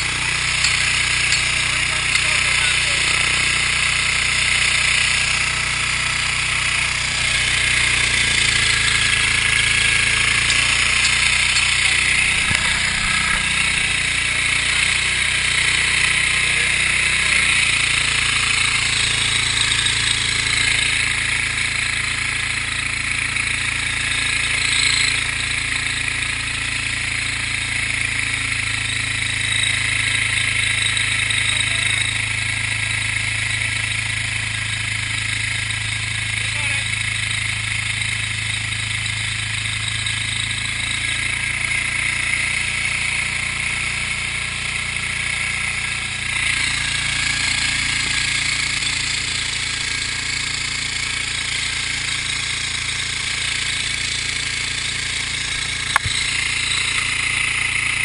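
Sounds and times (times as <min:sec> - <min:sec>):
pump engine running: 0:00.0 - 0:58.0.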